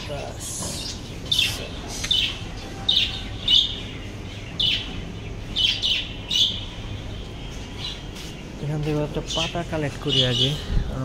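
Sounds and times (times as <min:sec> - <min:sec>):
budgerigars chirping: 0:00.0 - 0:10.8
low steady background hum: 0:00.0 - 0:11.0.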